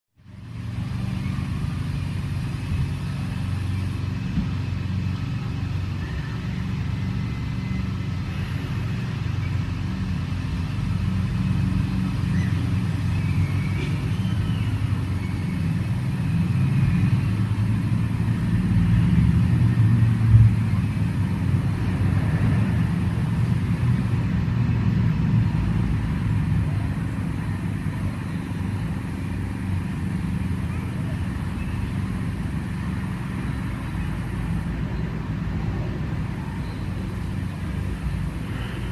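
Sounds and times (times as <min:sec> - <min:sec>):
low outdoor rumble: 0:00.2 - 0:38.9.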